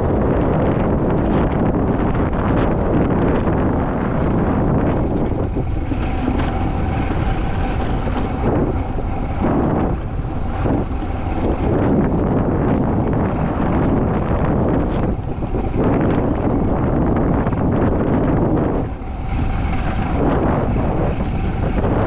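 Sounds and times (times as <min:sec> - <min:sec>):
wheels rumbling on steel rail: 0:00.0 - 0:22.0
wind buffeting microphone: 0:00.0 - 0:22.0.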